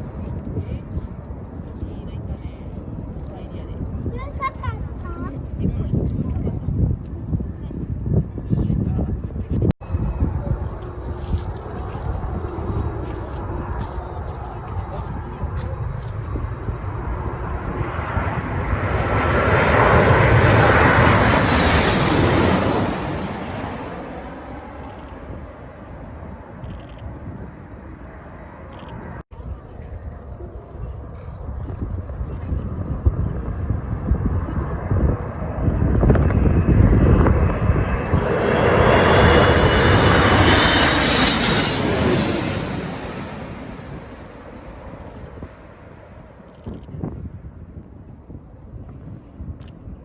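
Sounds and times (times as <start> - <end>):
jet airliner passing overhead: 0.0 - 50.0
high jet engine whine: 9.3 - 50.0.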